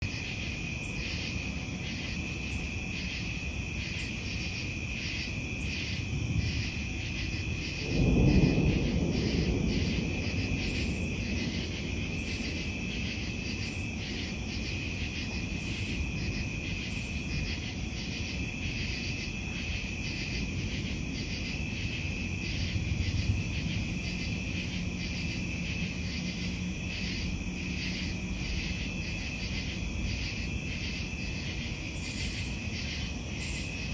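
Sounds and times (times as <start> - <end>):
frogs and insects chorus: 0.0 - 33.9
thunder rumbling: 5.2 - 33.9.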